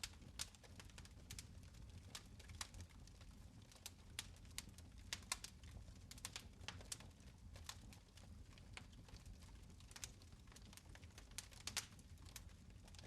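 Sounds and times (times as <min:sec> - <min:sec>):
fire popping and snapping: 0:00.0 - 0:13.0
low fire rumble: 0:00.0 - 0:13.0.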